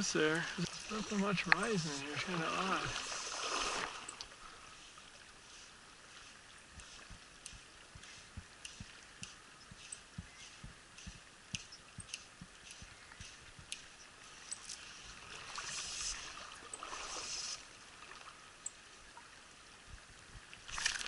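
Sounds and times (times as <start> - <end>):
mountain stream rushing: 0.0 - 18.5.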